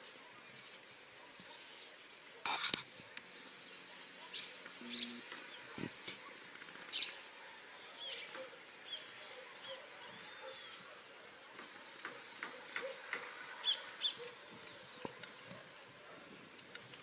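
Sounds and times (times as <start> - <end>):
small birds chirping: 0.0 - 2.3, 3.0 - 16.9.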